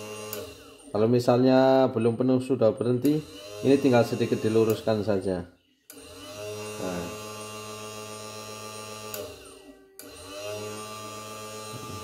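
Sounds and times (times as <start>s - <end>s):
small electric motor running: 0.0s - 1.9s, 3.1s - 12.0s.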